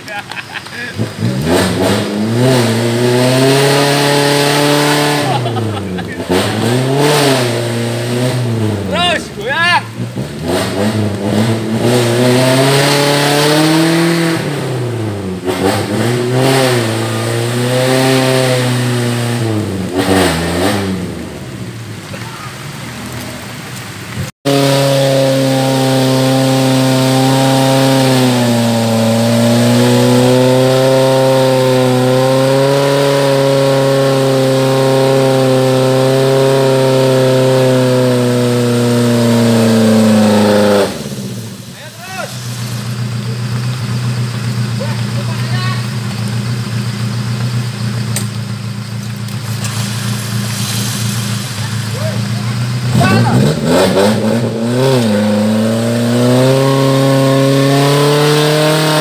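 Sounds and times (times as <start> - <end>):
off-road car engine revving: 0.0 - 59.0.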